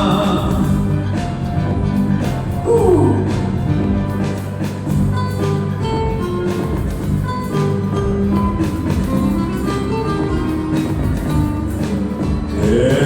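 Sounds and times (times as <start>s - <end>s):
pop beat and bass: 0.0s - 13.0s
steelpan-like melody: 0.0s - 13.0s.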